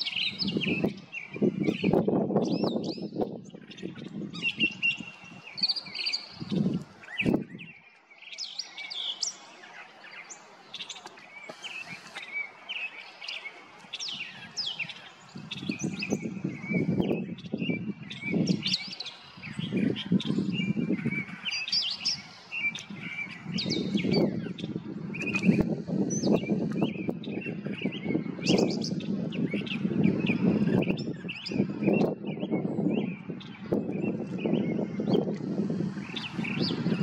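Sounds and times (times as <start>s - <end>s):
bird singing chirps and whistles: 0.0s - 35.3s.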